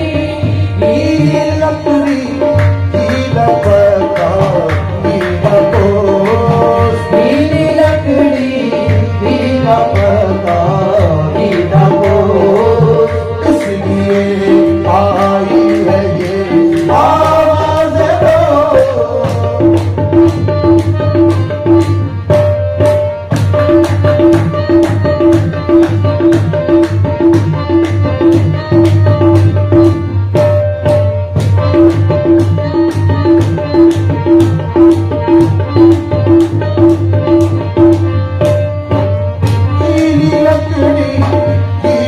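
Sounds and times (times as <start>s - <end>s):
tabla rhythm: 0.0s - 42.0s.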